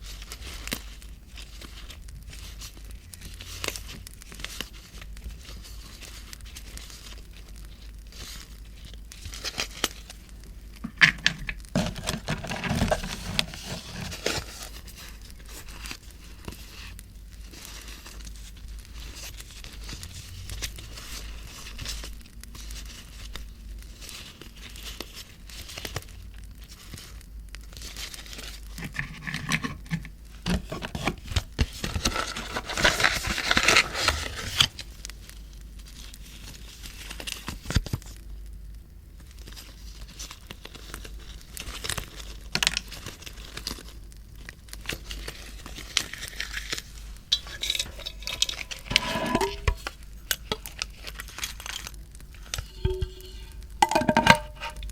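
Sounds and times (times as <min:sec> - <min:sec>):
paper crinkling and tearing: 0:00.0 - 0:38.2, 0:39.2 - 0:52.9.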